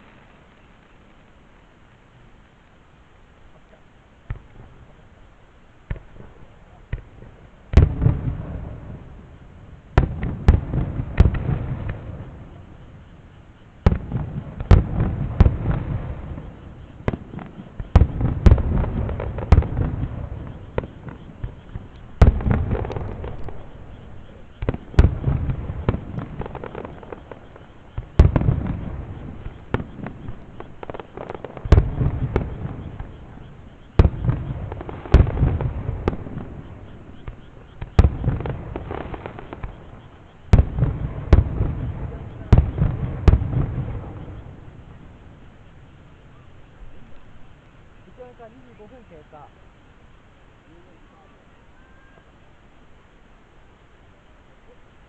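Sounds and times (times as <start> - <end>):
fireworks crackling: 0.0 - 55.0
fireworks bangs: 4.2 - 5.2, 5.8 - 49.5.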